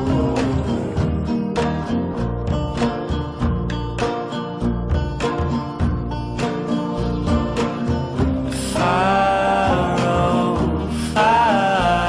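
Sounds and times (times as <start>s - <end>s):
acoustic guitar strumming: 0.0s - 12.0s
bass line: 0.0s - 12.0s.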